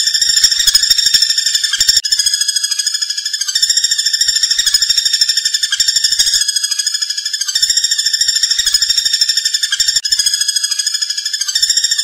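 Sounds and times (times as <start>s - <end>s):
woodpecker rattling trill: 0.0s - 12.0s.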